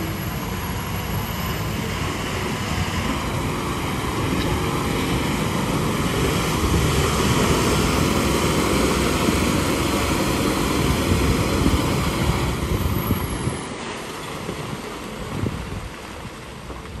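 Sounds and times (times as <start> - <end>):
diesel truck engine under load: 0.0 - 17.0.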